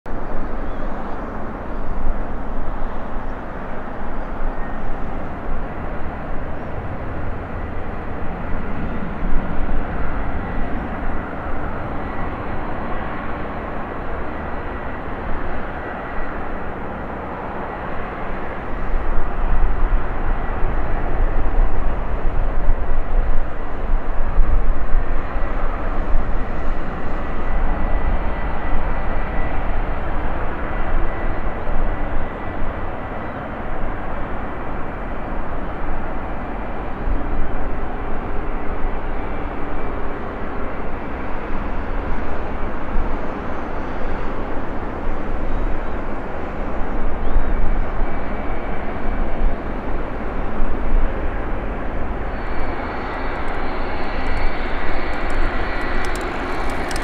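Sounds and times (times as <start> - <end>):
jet engines whining and roaring: 0.1 - 57.0.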